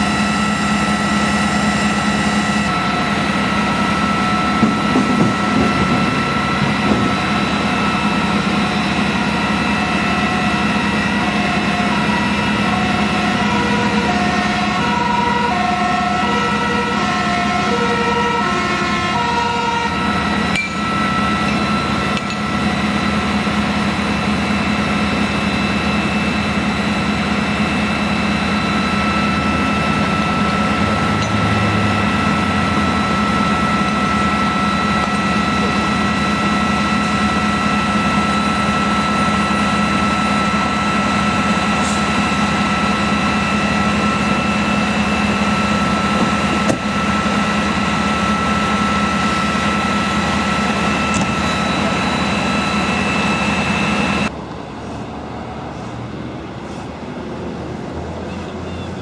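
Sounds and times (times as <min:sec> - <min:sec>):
engine idling with whine: 0:00.0 - 0:59.0.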